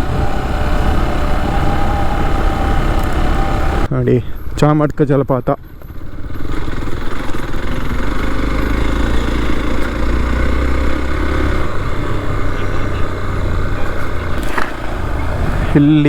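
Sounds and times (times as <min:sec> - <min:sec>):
motorcycle engine running: 0:00.0 - 0:04.8, 0:05.4 - 0:16.0.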